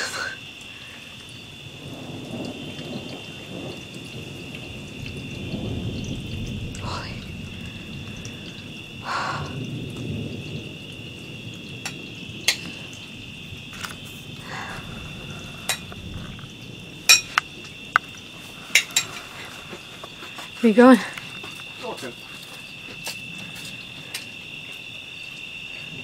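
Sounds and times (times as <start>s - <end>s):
insects trilling: 0.0s - 26.0s
thunder rumbling: 0.0s - 26.0s.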